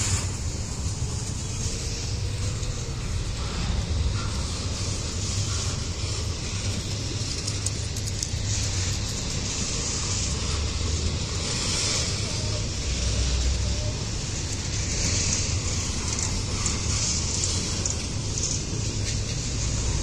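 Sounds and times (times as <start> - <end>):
hiss: 0.0 - 20.0
train wheels rumbling on rail: 0.0 - 20.0.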